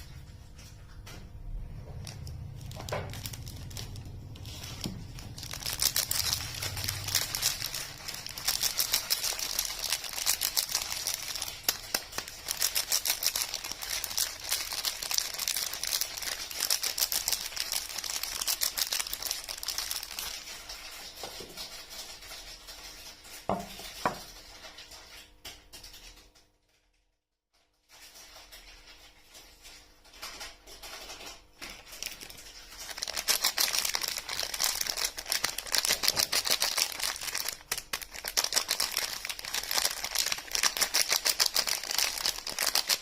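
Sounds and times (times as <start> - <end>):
packaging crinkling and rustling: 0.0 - 27.0, 27.6 - 43.0.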